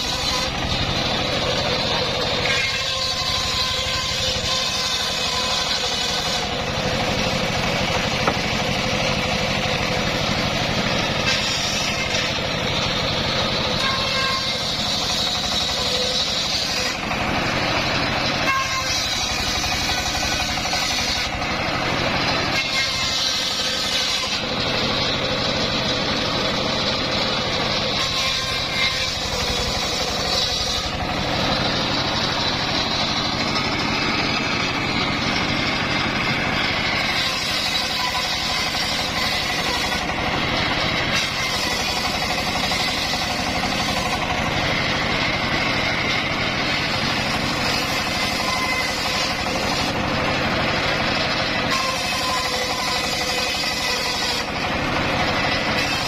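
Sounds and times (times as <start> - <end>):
engine-driven circular saw running: 0.0 - 56.0.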